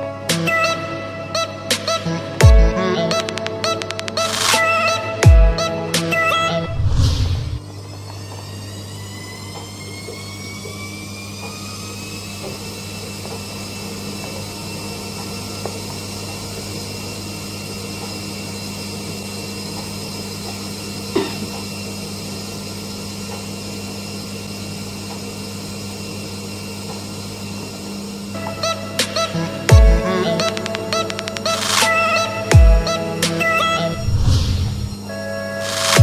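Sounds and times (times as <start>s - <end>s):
kitchen appliance motor whining: 0.0s - 36.0s.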